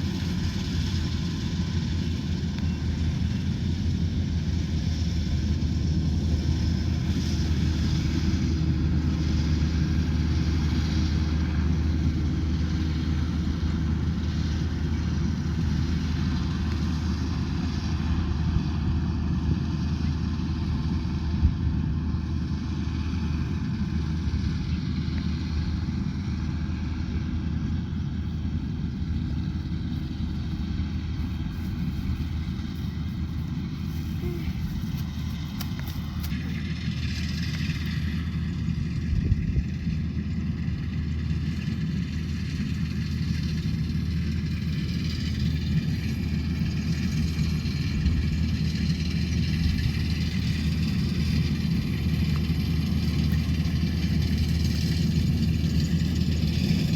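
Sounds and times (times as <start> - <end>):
combine harvester droning: 0.0 - 56.9.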